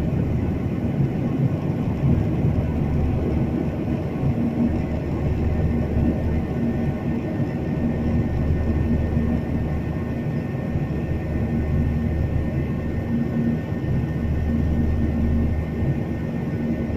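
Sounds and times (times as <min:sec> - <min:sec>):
jet engine rumble and rushing air: 0:00.0 - 0:16.9.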